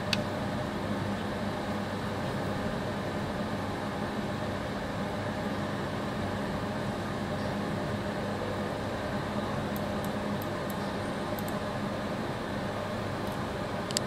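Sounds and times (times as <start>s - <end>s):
cooling fans whirring: 0.0s - 14.0s.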